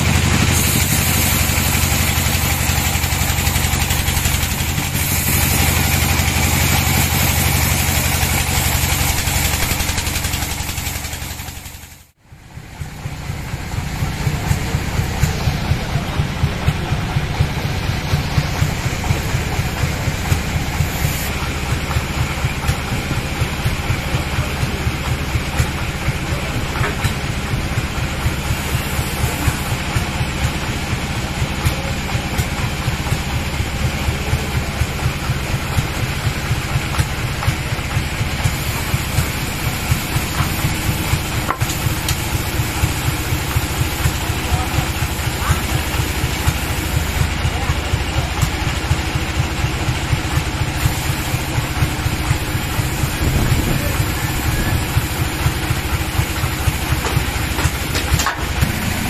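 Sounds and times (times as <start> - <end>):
sawmill engine idling: 0.0 - 59.0.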